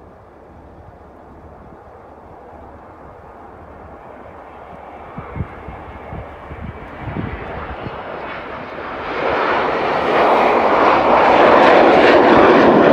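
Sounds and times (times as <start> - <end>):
jet engines at takeoff power: 0.0 - 12.9.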